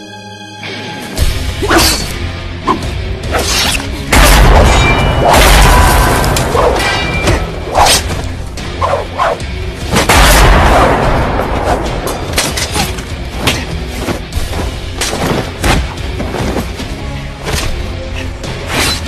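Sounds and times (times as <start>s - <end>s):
music: 0.0s - 19.0s.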